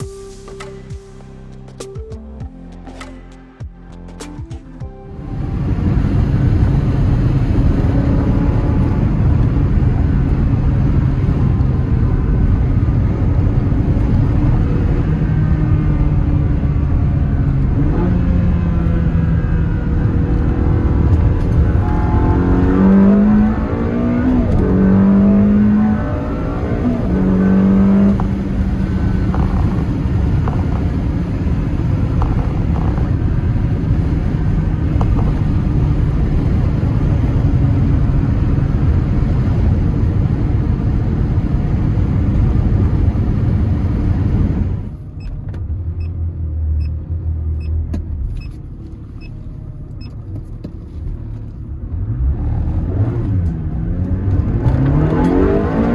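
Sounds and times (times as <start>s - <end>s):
road and wind noise: 0.0s - 55.9s
sports car engine accelerating: 0.0s - 55.9s.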